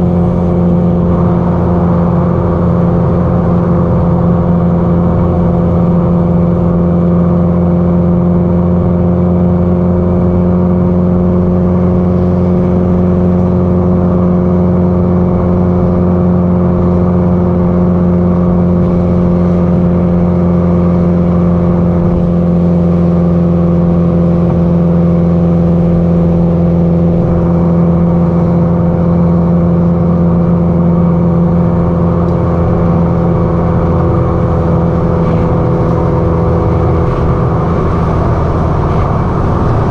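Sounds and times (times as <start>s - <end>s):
car engine and exhaust cruising: 0.0s - 39.9s.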